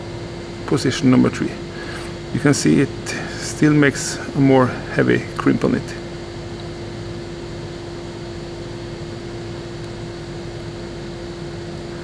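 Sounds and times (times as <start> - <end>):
machine hum tone: 0.0 - 12.0.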